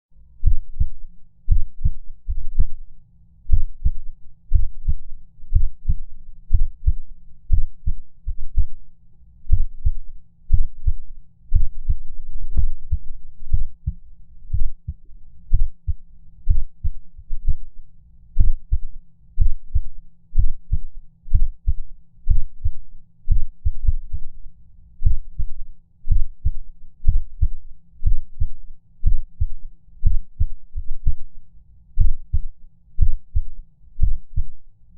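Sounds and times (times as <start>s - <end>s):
heartbeat thumps: 0.4s - 2.8s, 3.5s - 8.8s, 9.5s - 17.7s, 18.4s - 24.4s, 25.0s - 31.3s, 32.0s - 34.5s.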